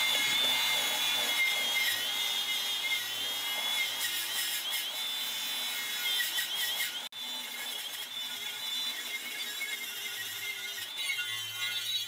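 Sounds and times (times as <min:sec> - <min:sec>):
angle grinder grinding metal: 0:00.0 - 0:12.0.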